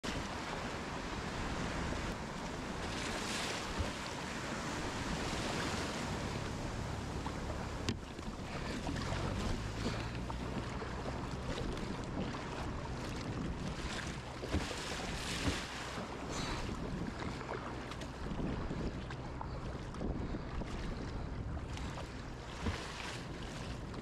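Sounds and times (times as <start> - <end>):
water splashing around kayak hull: 0.0 - 24.0
wind buffeting microphone: 0.0 - 24.0.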